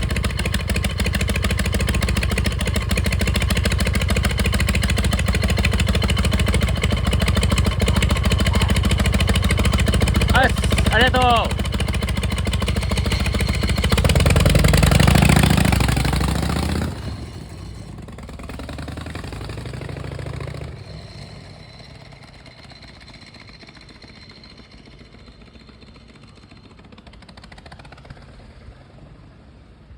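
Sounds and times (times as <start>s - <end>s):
motorcycle engine pulling away: 0.0s - 29.9s.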